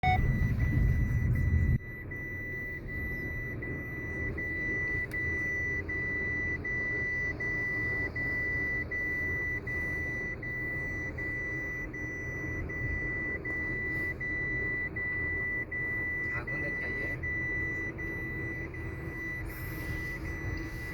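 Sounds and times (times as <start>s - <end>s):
car warning buzzer beeping: 0.0s - 20.9s
low rumble of car: 0.0s - 20.9s.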